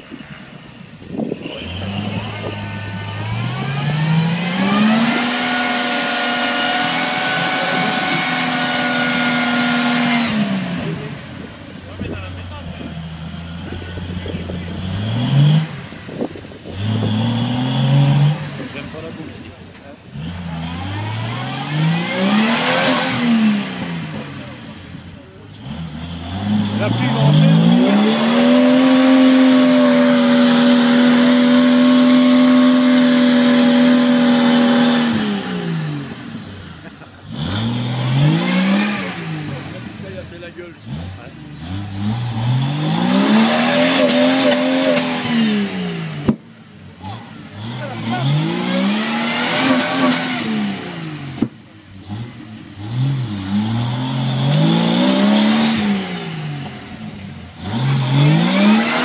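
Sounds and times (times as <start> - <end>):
engine revving: 0.0 - 59.0.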